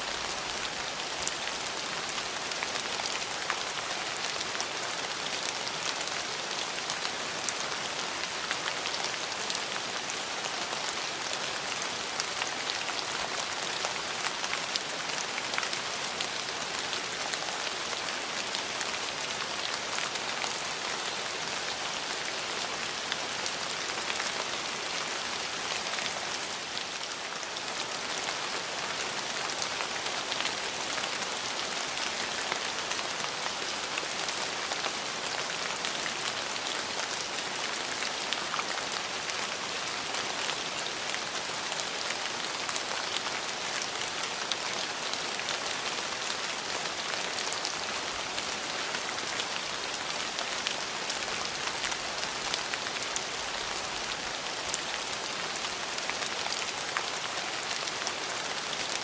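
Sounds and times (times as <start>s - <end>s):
steady rain on hard surfaces: 0.0s - 59.0s.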